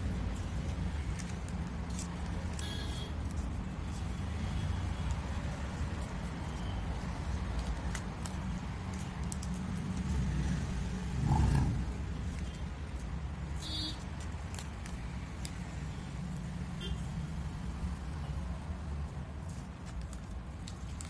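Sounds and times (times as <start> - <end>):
newspaper clicks being folded: 0.0 - 11.1, 11.9 - 21.0
road traffic rumble: 0.0 - 21.0.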